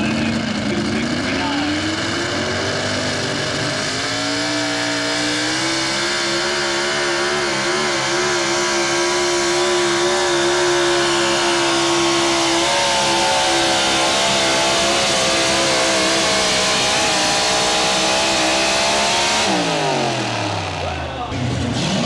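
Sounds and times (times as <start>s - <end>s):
truck engine revving high: 0.0s - 22.0s.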